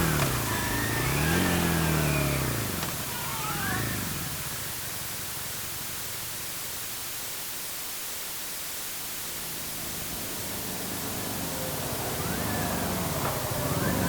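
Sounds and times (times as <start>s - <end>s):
motorcycle passing: 0.0s - 6.7s, 9.3s - 14.0s
steady background hiss: 0.0s - 14.0s.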